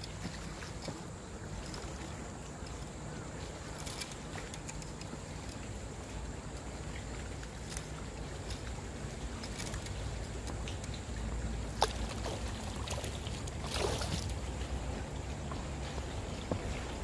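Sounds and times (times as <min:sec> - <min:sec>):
fish splashing in water: 0:00.0 - 0:17.0
water noise: 0:00.0 - 0:17.0
wind: 0:00.0 - 0:17.0.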